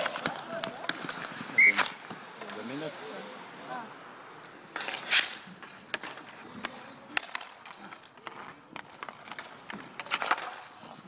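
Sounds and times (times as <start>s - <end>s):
hockey sticks clacking on puck: 0.0s - 2.7s, 4.8s - 11.0s.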